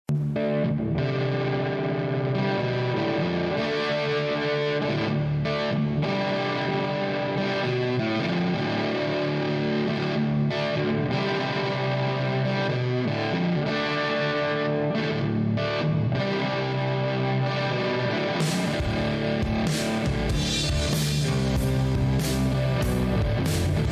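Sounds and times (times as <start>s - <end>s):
rock music with electric guitar: 0.1s - 23.9s.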